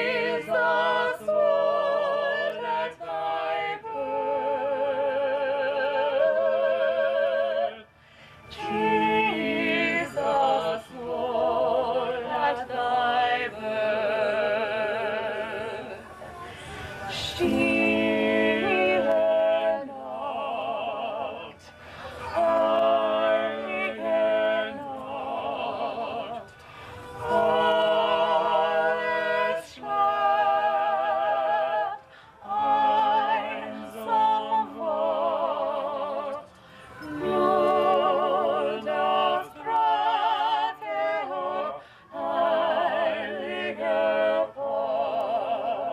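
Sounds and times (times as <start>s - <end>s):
opera-style singing with vibrato: 0.0s - 45.9s.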